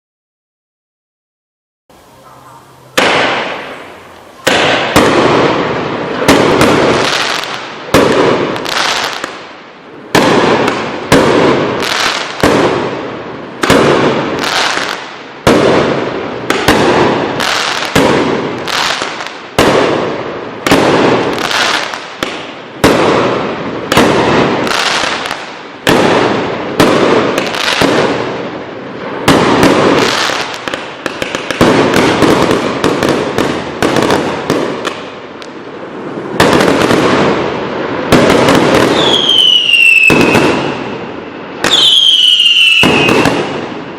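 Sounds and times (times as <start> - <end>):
fireworks cake bangs: 3.0 - 9.4, 10.1 - 13.0, 13.6 - 28.4, 29.0 - 35.1, 36.4 - 37.5, 38.1 - 40.8, 41.6 - 43.8.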